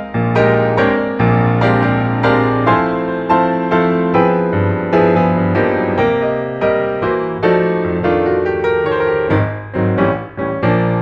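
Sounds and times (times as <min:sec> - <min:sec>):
slow solo piano piece: 0:00.0 - 0:11.0.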